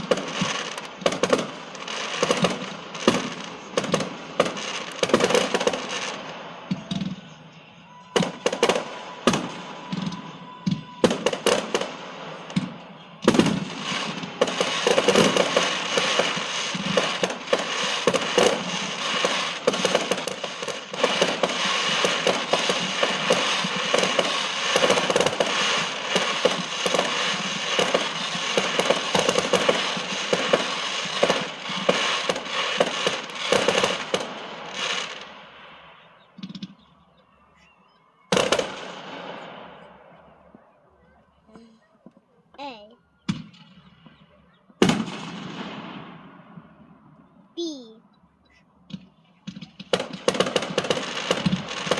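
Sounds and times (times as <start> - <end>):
rapid crackling firecracker pops: 0.0 - 7.4, 8.1 - 37.0, 38.2 - 40.7, 43.2 - 46.9, 48.8 - 51.9
fireworks bangs: 0.0 - 51.9.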